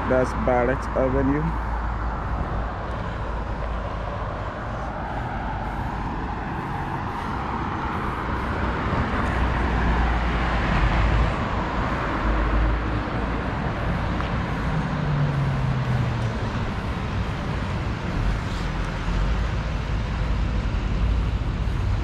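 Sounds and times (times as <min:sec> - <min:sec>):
road traffic: 0:00.0 - 0:22.0.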